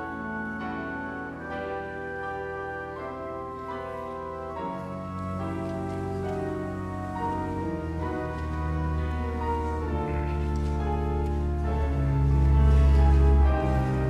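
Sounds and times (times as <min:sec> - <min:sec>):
church organ chords: 0:00.0 - 0:14.0
piano chords: 0:00.0 - 0:14.0.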